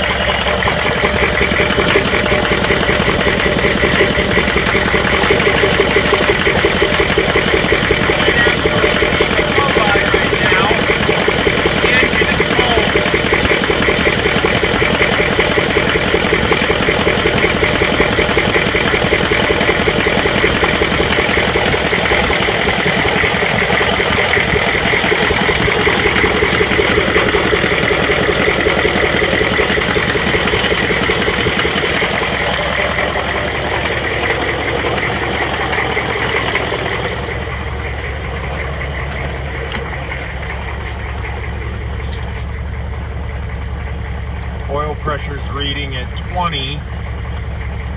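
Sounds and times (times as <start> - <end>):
misfiring diesel engine idling: 0.0 - 47.9.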